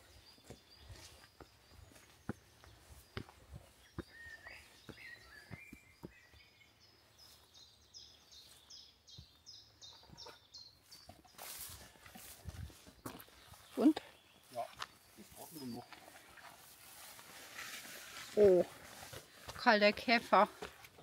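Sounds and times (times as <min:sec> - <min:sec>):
soft footsteps: 0:00.0 - 0:07.6, 0:10.0 - 0:21.0
songbirds singing: 0:00.0 - 0:17.3.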